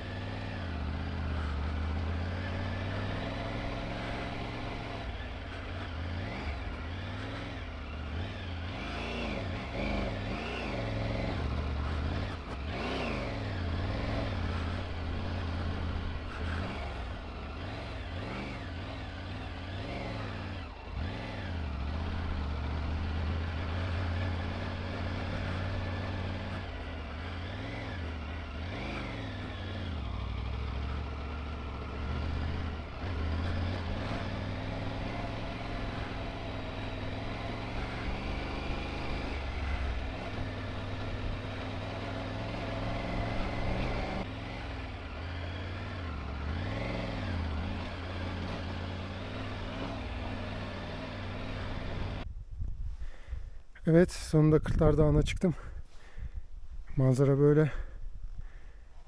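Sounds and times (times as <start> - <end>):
motorcycle engine revving: 0.0 - 52.3.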